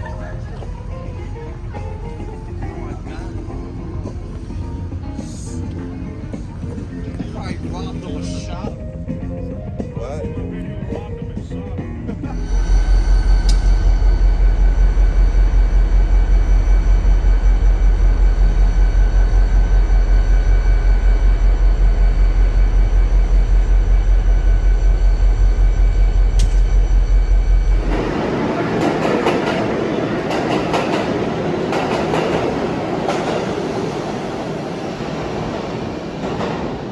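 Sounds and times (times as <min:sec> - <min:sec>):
locomotive engine throbbing: 0:00.0 - 0:36.9
train rolling on rails: 0:00.0 - 0:36.9.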